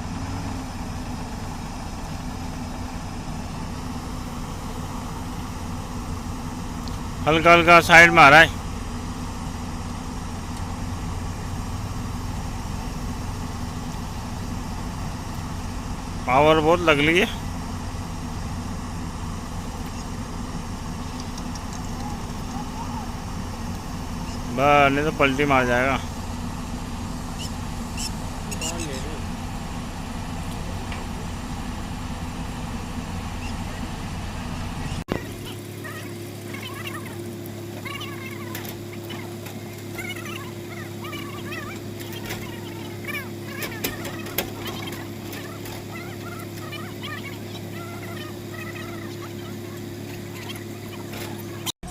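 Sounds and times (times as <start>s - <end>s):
heavy diesel engine under load: 0.0s - 51.9s.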